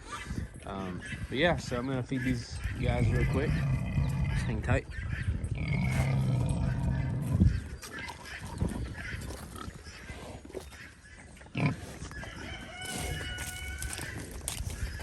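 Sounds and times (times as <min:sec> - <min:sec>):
pigs grunting: 0:00.0 - 0:15.0
pigs squealing: 0:00.0 - 0:15.0.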